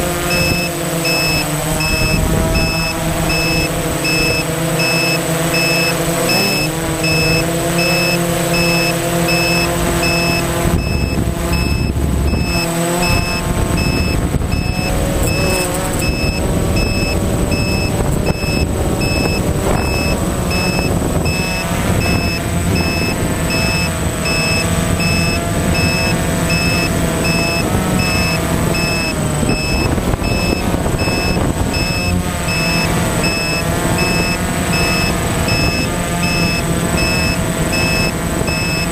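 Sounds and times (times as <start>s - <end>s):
drone propellers buzzing: 0.0s - 38.9s
steady high whine: 0.0s - 38.9s
faint fast beeping: 0.2s - 38.9s.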